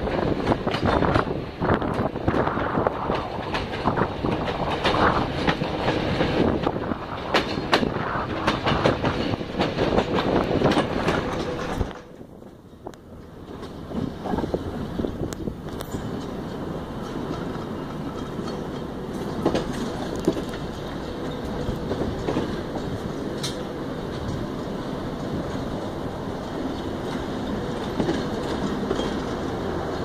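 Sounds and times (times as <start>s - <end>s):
train rumble: 0.0s - 30.0s
wheels clacking over rail joints: 0.0s - 30.0s.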